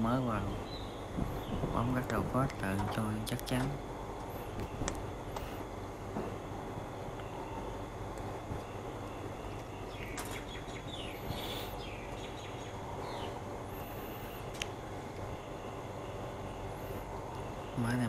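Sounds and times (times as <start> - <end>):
birds chirping: 0.0 - 6.4, 7.0 - 18.0
outdoor background noise: 0.0 - 18.0.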